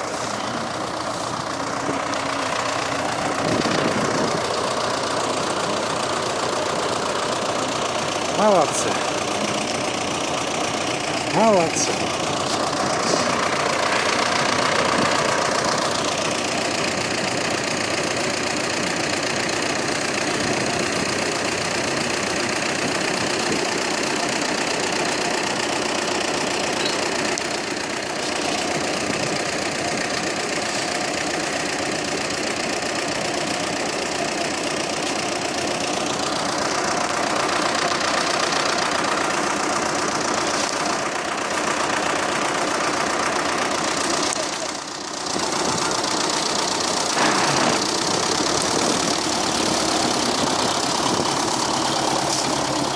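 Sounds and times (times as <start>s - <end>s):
logging machinery engine running: 0.0s - 52.9s.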